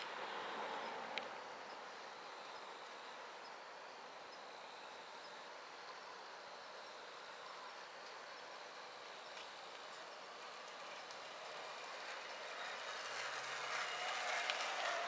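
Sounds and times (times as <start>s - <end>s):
outdoor night background: 0.0s - 15.0s.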